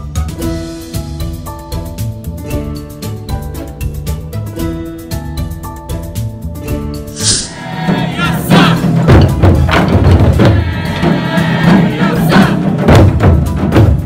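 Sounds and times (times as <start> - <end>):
taiko drums in driving rhythm: 0.0 - 14.0.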